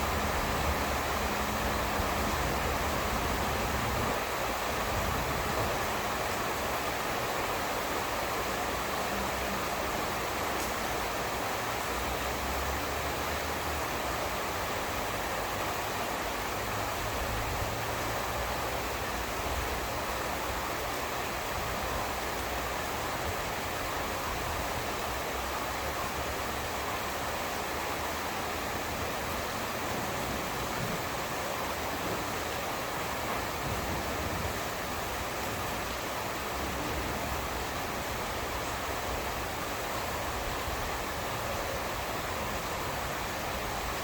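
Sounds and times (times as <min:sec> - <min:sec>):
heavy rain hiss: 0:00.0 - 0:44.0.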